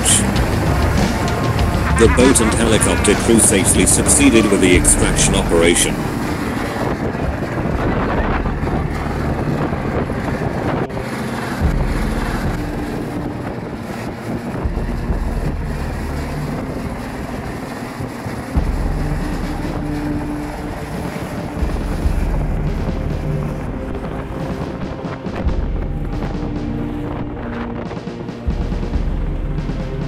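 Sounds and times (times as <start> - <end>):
boat engine rumbling: 0.0 - 30.0
wind buffeting microphone: 0.0 - 30.0.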